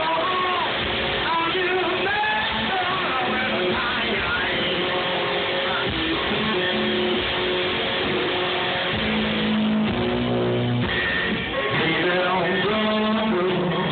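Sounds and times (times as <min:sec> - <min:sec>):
drums: 0:00.0 - 0:13.9
electric guitar playing: 0:00.0 - 0:13.9.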